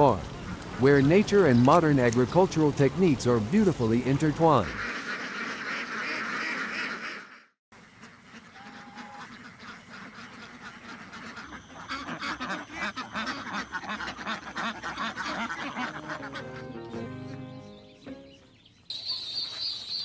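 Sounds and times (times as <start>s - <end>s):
ducks quacking: 0.0s - 19.6s.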